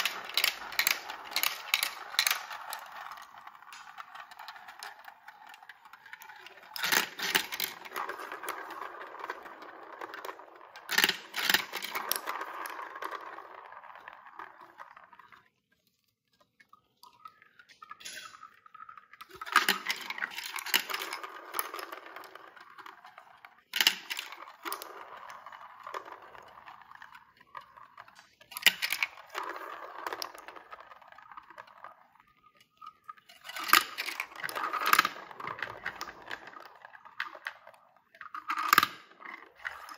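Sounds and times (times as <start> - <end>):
balls clacking onto tracks: 0.0 - 15.6, 17.4 - 39.9
plastic balls rolling in funnels: 0.0 - 39.9.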